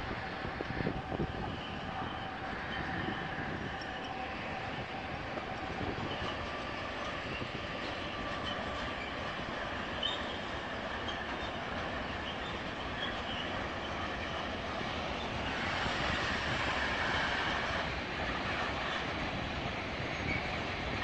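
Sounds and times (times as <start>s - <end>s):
train running on track: 0.0s - 21.0s.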